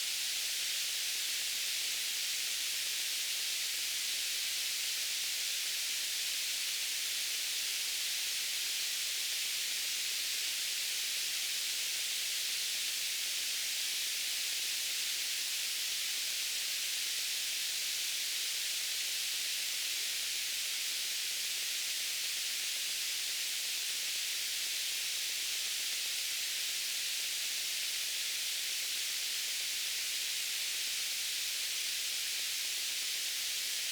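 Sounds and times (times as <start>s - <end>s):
white noise hiss: 0.0s - 33.9s.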